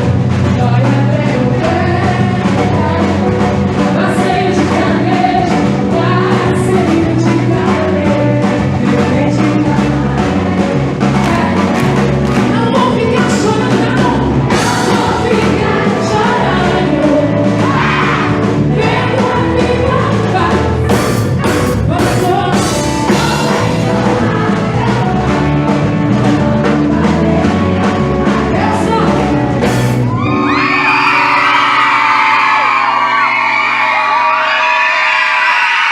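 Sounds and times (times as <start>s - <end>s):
person singing: 0.0s - 31.8s
steady drum beat: 0.0s - 32.8s.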